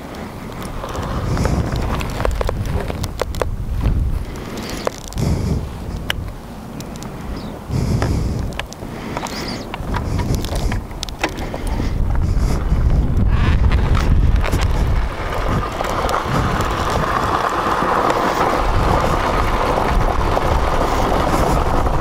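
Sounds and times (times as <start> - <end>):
motorcycle engine running: 0.0 - 8.5, 9.8 - 22.0
wind buffeting microphone: 0.0 - 22.0.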